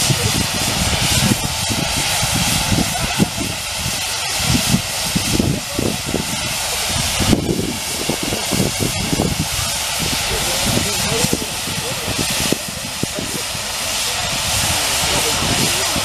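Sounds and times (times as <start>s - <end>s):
steam hissing: 0.0s - 16.0s
wind rumble on microphone: 0.0s - 16.0s.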